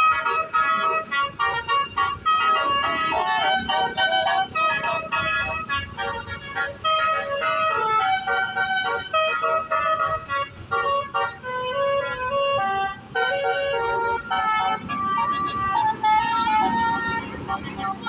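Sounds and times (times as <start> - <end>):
bus multi-tone horn melody: 0.0 - 18.0
low engine rumble: 0.0 - 18.0.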